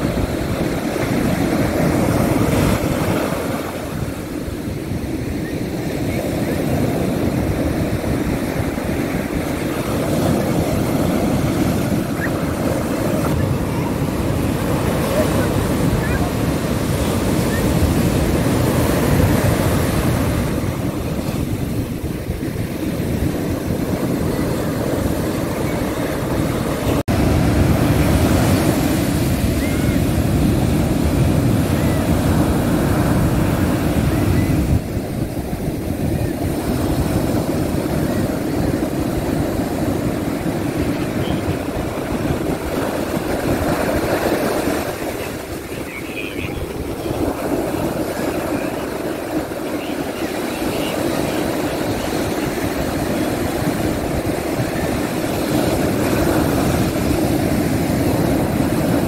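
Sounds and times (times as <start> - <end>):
surf breaking on beach: 0.0 - 59.0
wind rumbling on microphone: 0.0 - 59.0.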